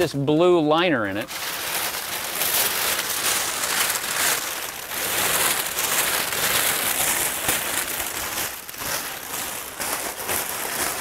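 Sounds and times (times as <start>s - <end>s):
plastic bin liner crinkling: 0.6s - 11.0s.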